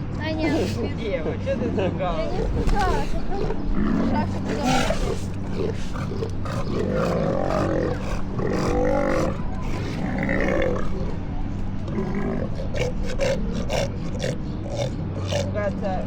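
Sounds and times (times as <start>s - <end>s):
sea lions roaring: 2.2s - 15.8s.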